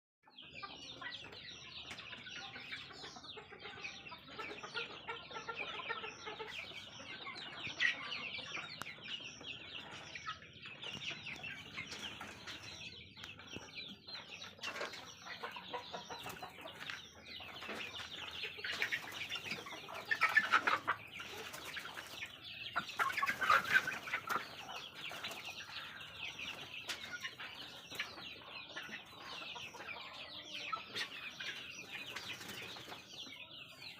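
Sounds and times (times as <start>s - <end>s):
chickens peeping and clucking: 0.2s - 33.9s.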